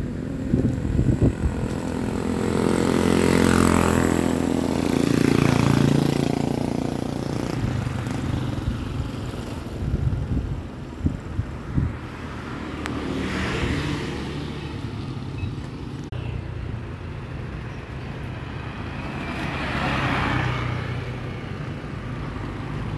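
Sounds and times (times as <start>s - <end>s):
road traffic drone: 0.0s - 22.9s
vehicles passing: 0.0s - 22.9s.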